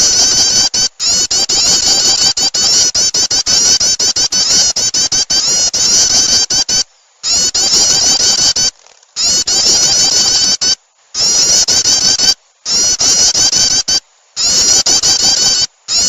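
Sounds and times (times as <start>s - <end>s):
rapid high bird chirps: 0.0s - 16.0s.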